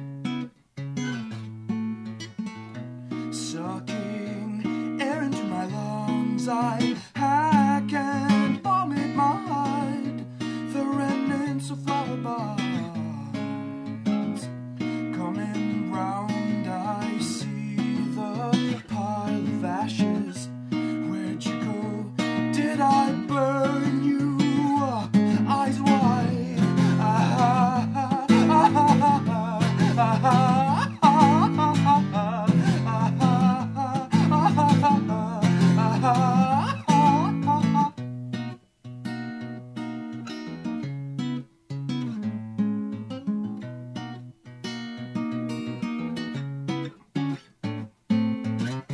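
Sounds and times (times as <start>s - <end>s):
acoustic guitar plucking: 0.0s - 48.9s.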